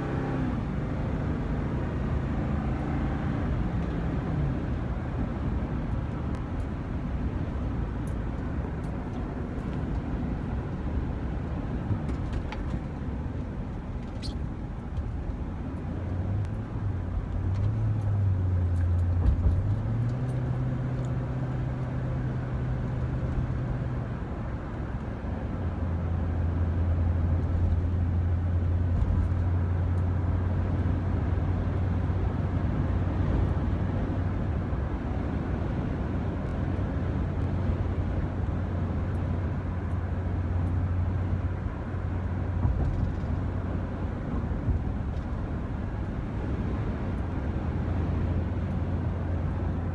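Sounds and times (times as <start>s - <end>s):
road noise: 0.0s - 49.9s.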